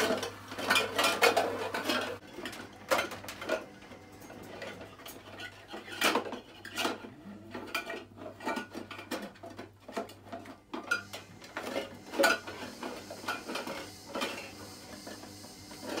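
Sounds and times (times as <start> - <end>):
metal tins and bowls clattering: 0.0 - 16.0.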